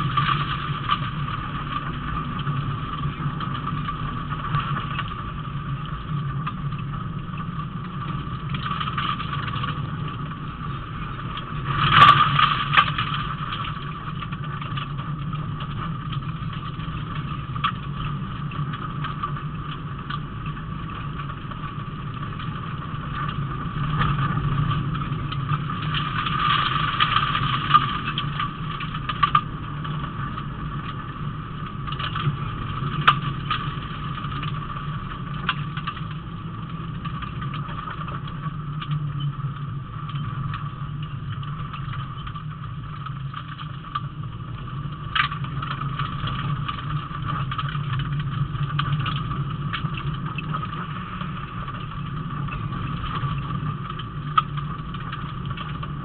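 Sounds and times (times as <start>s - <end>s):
road noise on gravel: 0.0s - 56.0s.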